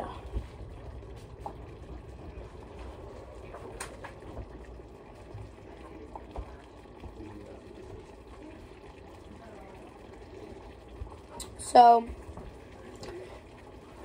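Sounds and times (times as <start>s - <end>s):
sugar syrup bubbling in a pot: 0.0s - 14.0s.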